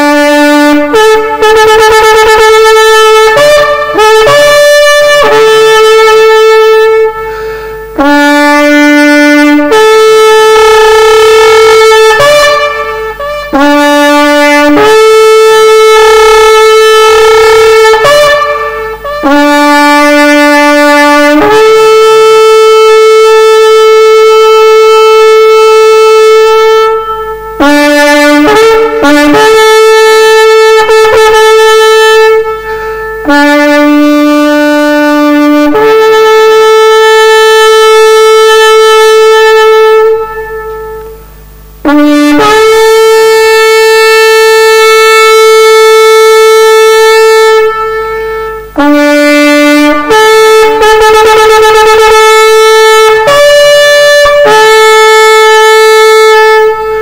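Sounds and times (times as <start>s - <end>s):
shofar blasts: 0.0s - 57.0s.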